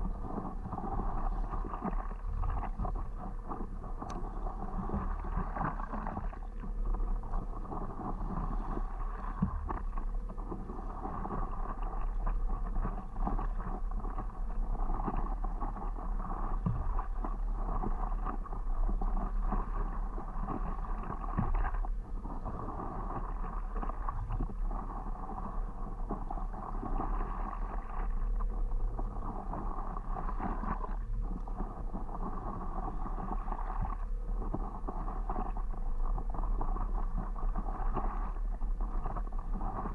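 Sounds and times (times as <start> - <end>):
low wind rumble on microphone: 0.0 - 39.9
water splashing against paddleboard: 0.0 - 39.9.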